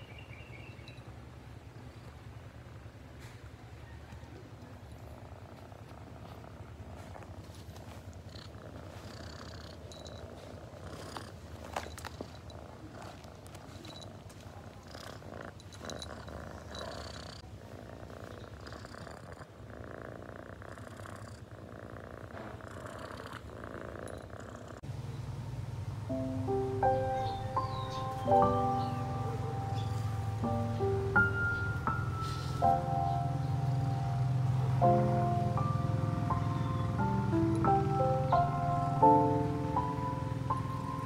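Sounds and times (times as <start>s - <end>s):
cat purring: 1.6s - 3.0s, 3.8s - 25.2s, 25.9s - 41.0s.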